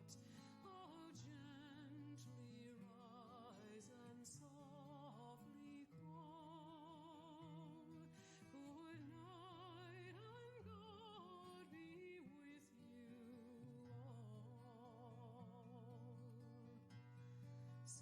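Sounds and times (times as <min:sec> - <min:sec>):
slow song with vibrato voice: 0:00.0 - 0:16.9.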